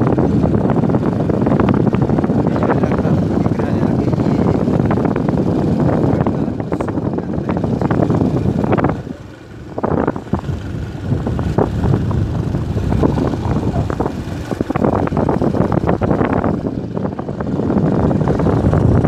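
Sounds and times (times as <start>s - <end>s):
road and engine rumble: 0.0s - 19.0s
wind buffeting microphone: 0.0s - 19.0s.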